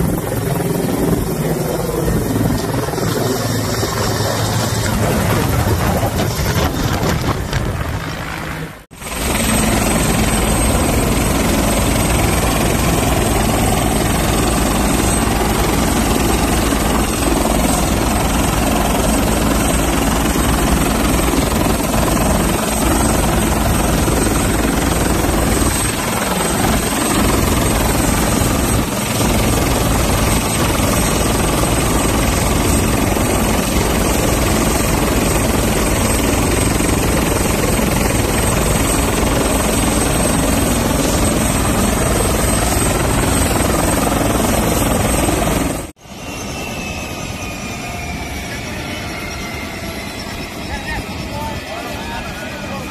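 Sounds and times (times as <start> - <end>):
helicopter engine and rotor: 0.0 - 52.9.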